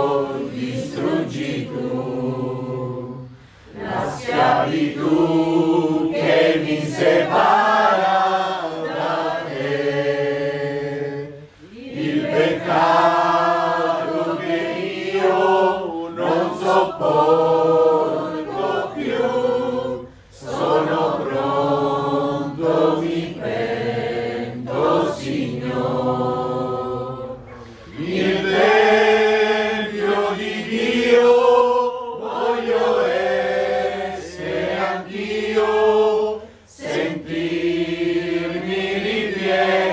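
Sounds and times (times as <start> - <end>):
women singing a hymn: 0.0 - 39.9.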